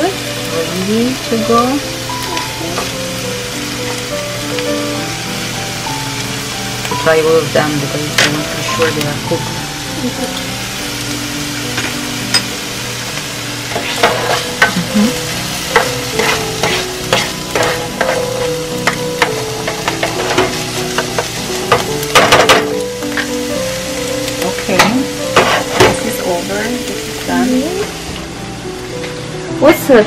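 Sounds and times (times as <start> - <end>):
mushrooms sizzling in frying pan: 0.0 - 30.0.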